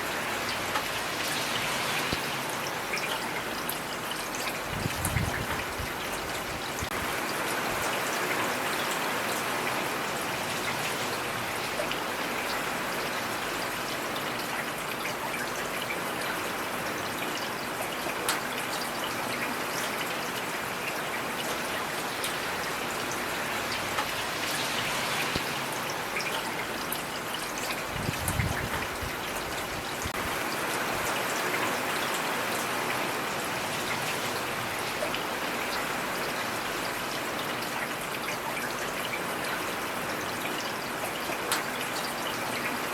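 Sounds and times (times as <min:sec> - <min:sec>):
running stream water: 0:00.0 - 0:42.9
steady rain falling: 0:00.0 - 0:42.9.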